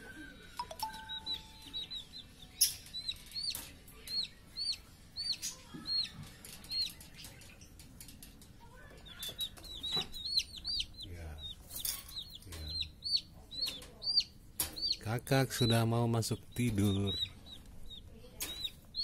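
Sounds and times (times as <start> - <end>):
caged bird chirping: 0.0 - 19.0.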